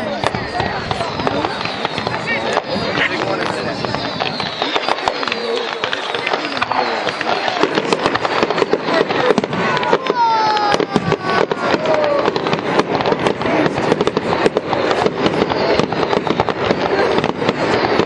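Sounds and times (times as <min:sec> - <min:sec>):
falling firework whistle: 0:00.0 - 0:18.0
fireworks crackling and banging: 0:00.0 - 0:18.0.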